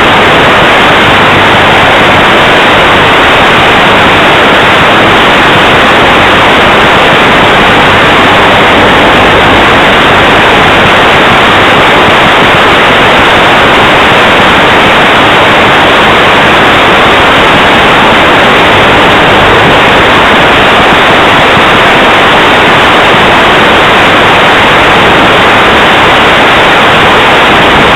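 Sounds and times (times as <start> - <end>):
static hiss: 0.0 - 27.9.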